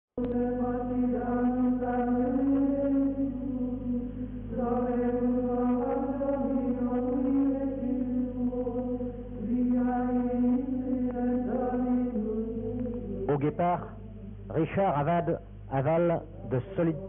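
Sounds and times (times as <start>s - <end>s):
steady low hum: 0.2s - 17.0s
voices singing chant-like melody: 0.2s - 17.0s.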